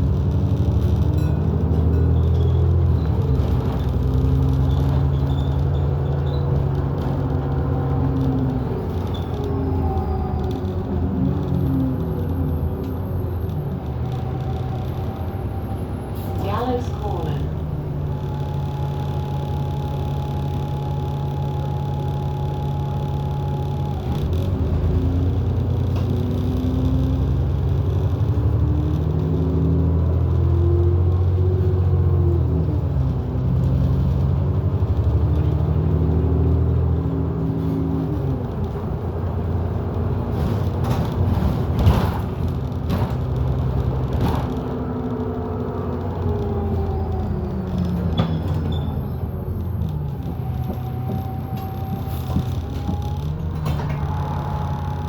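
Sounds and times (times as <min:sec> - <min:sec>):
bus engine hum and whine: 0:00.0 - 0:55.0.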